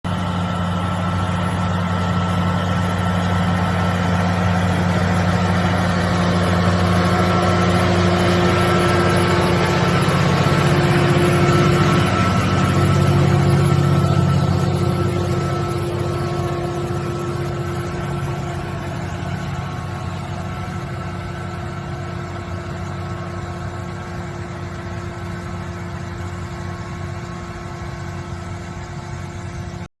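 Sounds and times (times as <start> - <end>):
tractor and power harrow droning: 0.0 - 29.9.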